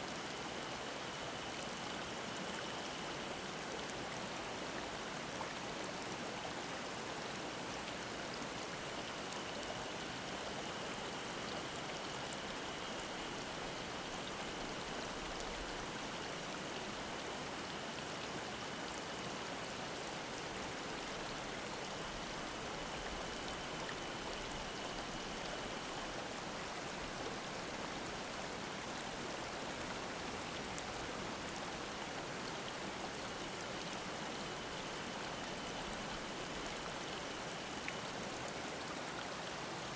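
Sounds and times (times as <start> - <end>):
stream babbling over rocks: 0.1 - 39.9.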